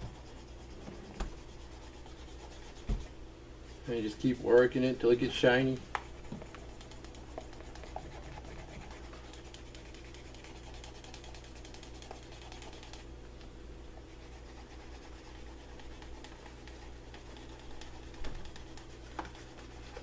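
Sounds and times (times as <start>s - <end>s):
tool rubbing on leather: 0.0s - 3.1s, 5.2s - 13.0s, 14.1s - 20.0s.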